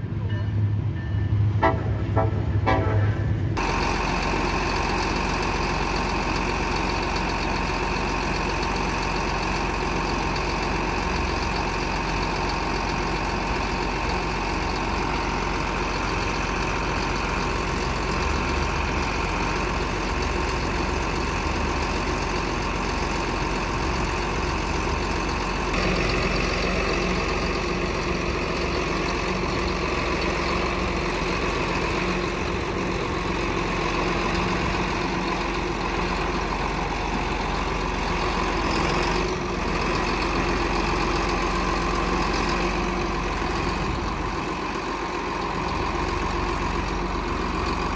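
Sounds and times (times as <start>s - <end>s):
heavy engine idling: 0.0s - 47.9s.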